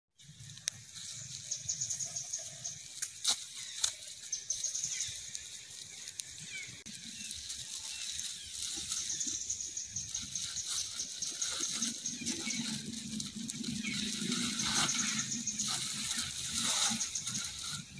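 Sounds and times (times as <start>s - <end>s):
insects chirping: 0.2s - 17.9s
low outdoor rumble: 0.2s - 17.9s.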